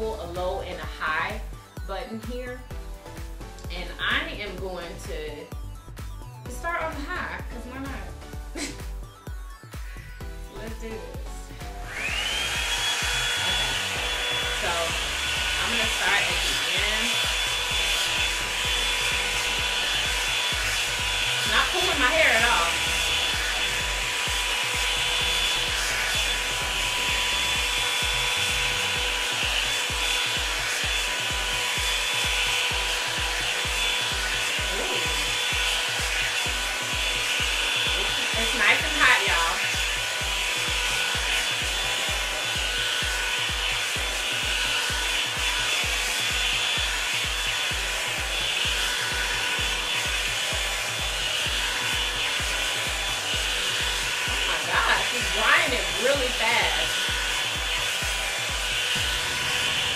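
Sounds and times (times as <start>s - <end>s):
hair dryer brush blowing: 0.0s - 59.9s.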